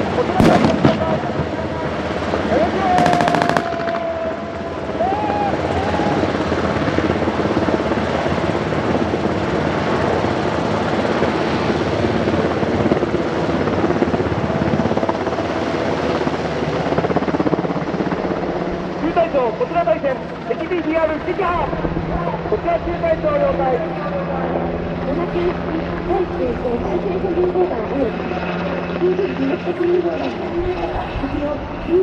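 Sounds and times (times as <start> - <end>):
helicopter flying past: 0.0 - 32.0.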